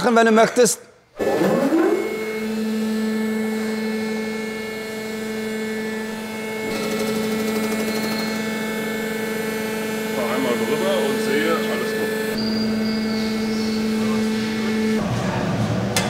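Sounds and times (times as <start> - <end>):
rough high-pitched cutting noise: 1.2 - 15.1
grinding machine whine and hum: 1.2 - 16.0.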